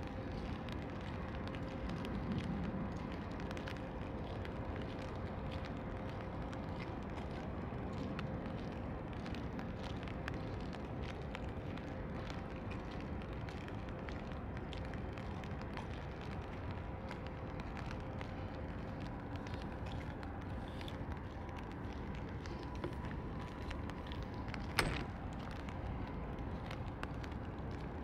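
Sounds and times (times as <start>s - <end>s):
low city rumble: 0.0s - 28.0s
steady rain patter: 0.0s - 28.0s.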